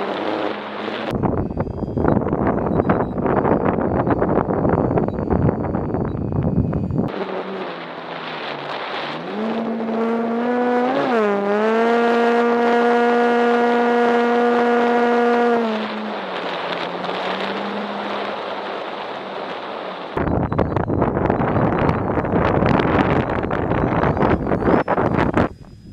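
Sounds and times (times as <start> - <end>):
model aeroplane engine: 0.0 - 25.9.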